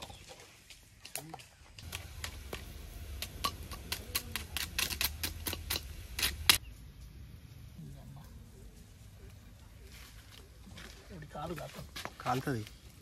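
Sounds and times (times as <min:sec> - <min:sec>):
firewood crackling and popping: 0:00.0 - 0:13.0.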